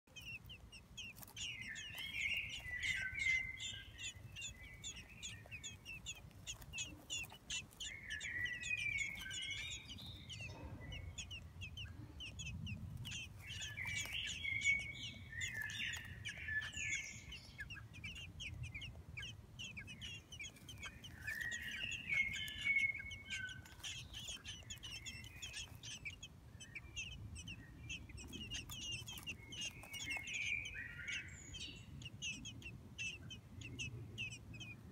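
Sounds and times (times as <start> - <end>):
nestlings chirping: 0.0 - 34.9.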